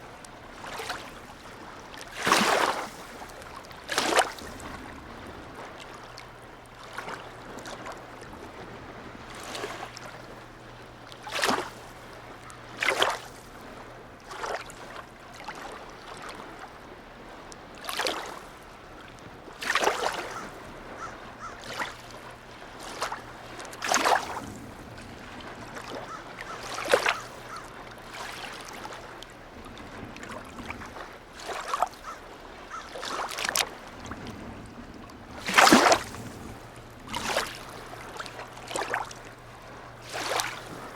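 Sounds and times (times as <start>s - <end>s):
small waves lapping: 0.0s - 40.9s.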